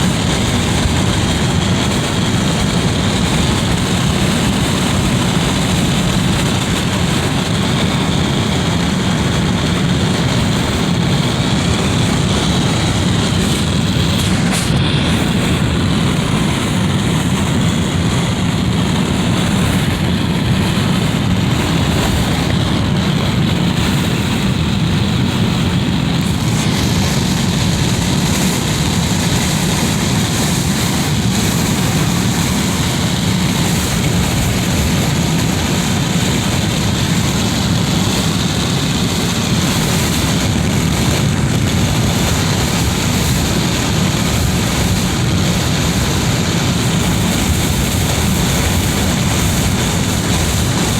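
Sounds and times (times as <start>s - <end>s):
wind rushing through window: 0.0s - 50.9s.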